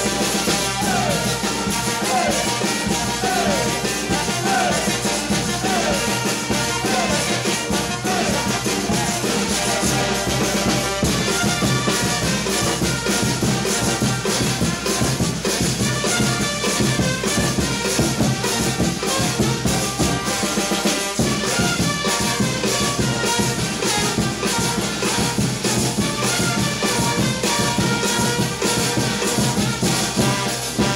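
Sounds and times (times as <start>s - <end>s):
brass band playing dance music: 0.0s - 30.9s.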